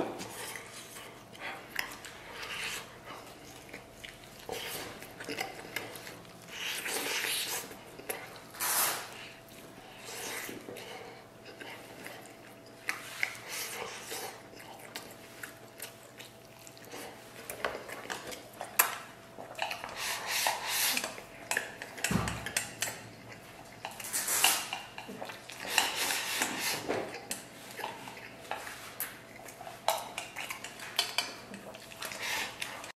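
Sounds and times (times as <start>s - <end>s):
chewing on a rib: 0.0s - 33.0s.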